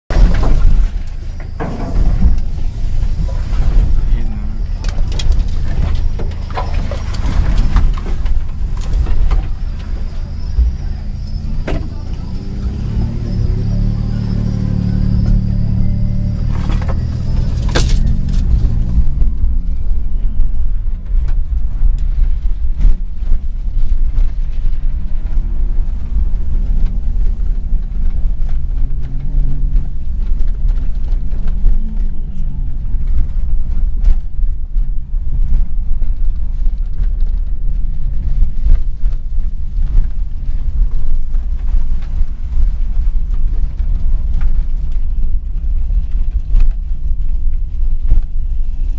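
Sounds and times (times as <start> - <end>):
tyres rumbling on dirt road: 0.0 - 48.9
car engine: 0.1 - 48.9.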